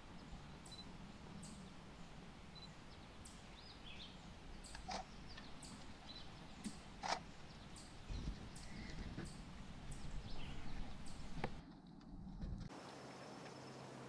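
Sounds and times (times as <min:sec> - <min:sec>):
faint bird chirps: 0:00.1 - 0:11.4.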